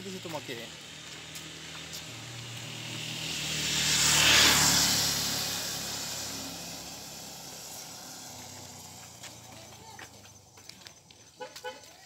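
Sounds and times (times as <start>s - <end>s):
vehicle passing by: 0.0s - 11.8s.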